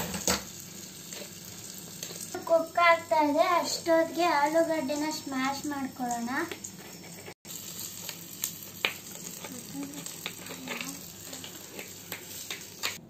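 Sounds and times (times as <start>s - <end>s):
masala sizzling faintly in a pan: 0.0s - 13.0s.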